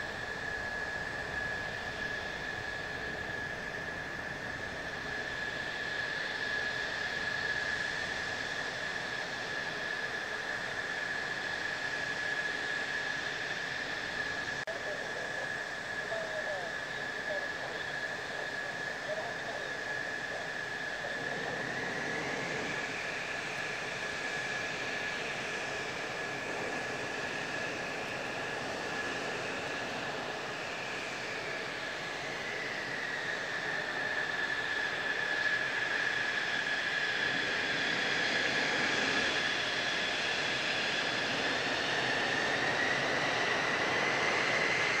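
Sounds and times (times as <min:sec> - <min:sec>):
jet engines idling: 0:00.0 - 0:45.0.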